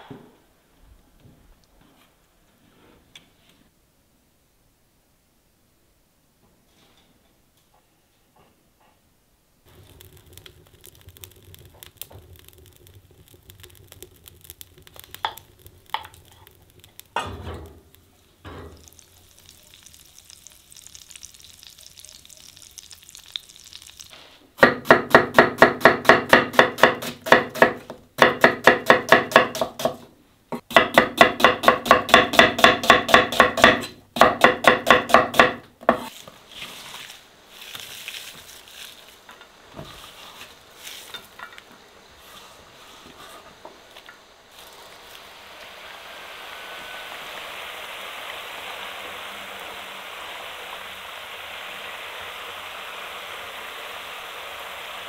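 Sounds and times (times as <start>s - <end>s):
wood fire crackling: 9.5s - 55.0s.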